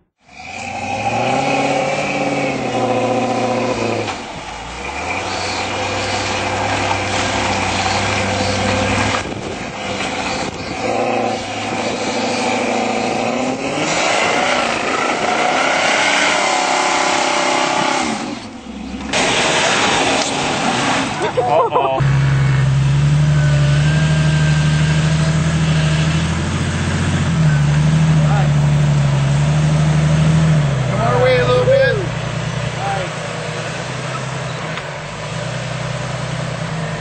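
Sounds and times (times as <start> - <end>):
off-road vehicle engines revving: 0.0 - 37.0.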